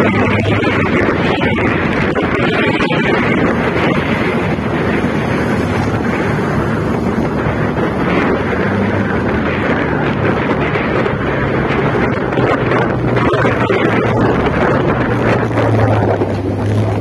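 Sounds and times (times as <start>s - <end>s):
motorcycle engine low hum: 0.0s - 17.0s
wind roaring over microphone: 0.0s - 17.0s.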